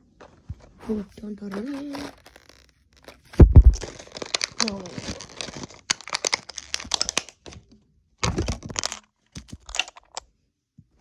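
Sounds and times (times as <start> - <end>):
packaging crackling and clicking: 0.8 - 10.2.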